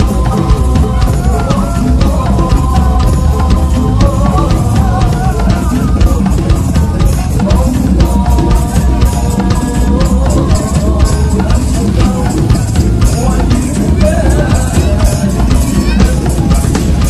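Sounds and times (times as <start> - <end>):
drums in fast steady rhythm: 0.0 - 17.0
wavering melody: 0.0 - 17.0.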